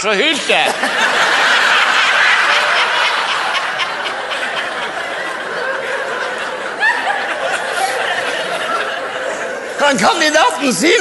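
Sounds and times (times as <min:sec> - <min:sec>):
audience laughing: 0:00.3 - 0:11.0.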